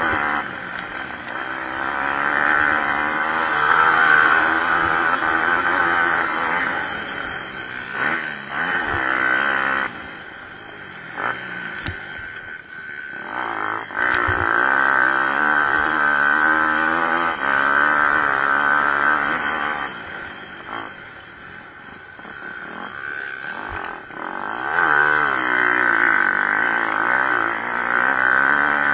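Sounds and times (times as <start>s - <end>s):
pit bike engines revving: 0.0s - 28.9s.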